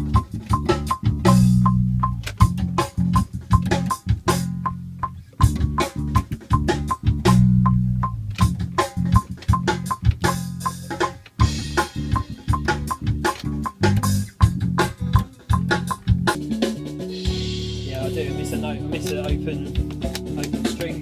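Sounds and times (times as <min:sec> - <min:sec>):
low bass notes: 0:00.0 - 0:21.0
rhythmic drum hits: 0:00.0 - 0:21.0.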